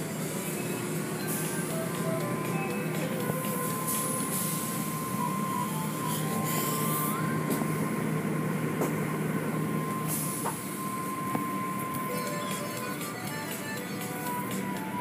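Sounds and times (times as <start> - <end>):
car wash machinery: 0.0 - 15.0
constant high whine: 0.0 - 15.0.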